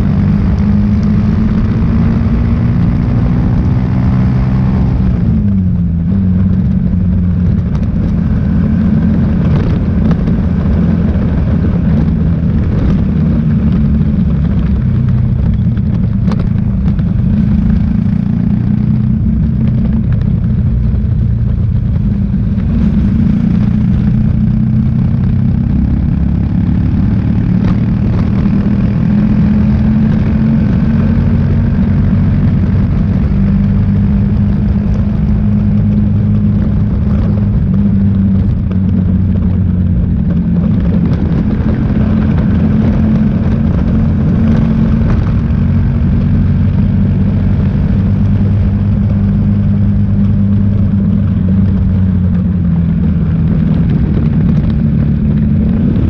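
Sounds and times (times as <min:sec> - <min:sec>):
motorcycle engine running: 0:00.0 - 0:56.0
wind on microphone: 0:00.0 - 0:56.0.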